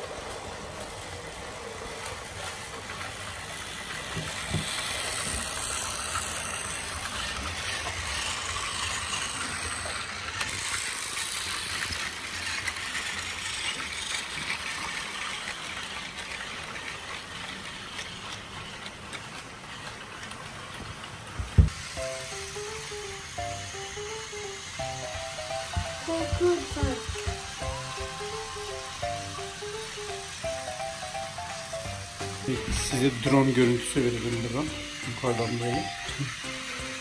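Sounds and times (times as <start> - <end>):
toy train motors whirring: 0.0 - 37.0
wheels rattling over track: 0.0 - 37.0.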